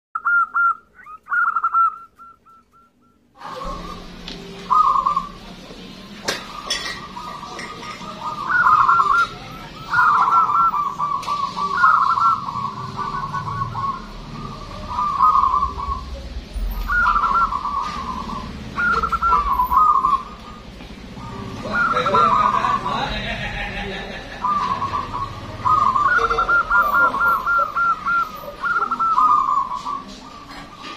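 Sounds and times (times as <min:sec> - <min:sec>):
dove cooing: 0:00.2 - 0:05.5, 0:06.2 - 0:30.9.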